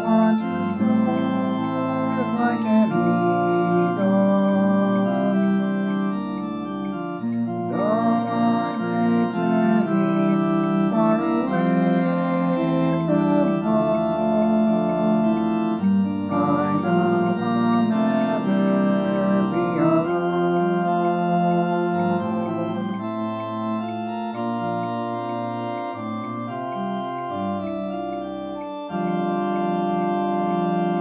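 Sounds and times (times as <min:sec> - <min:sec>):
organ playing hymn chords: 0:00.0 - 0:31.0.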